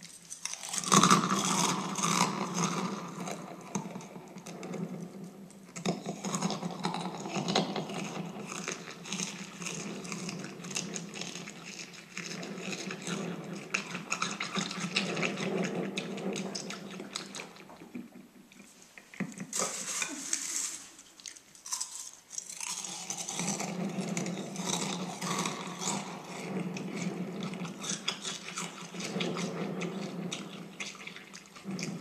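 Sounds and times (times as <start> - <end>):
cereal crunching while chewed: 0.0 - 18.0, 18.6 - 32.0.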